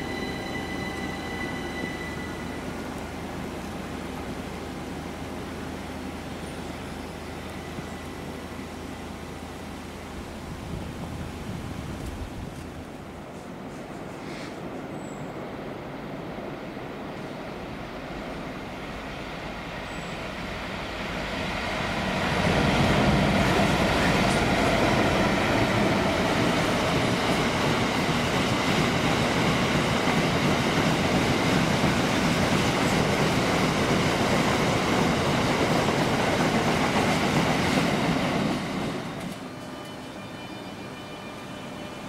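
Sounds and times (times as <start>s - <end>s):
diesel freight train passing: 0.0s - 42.0s.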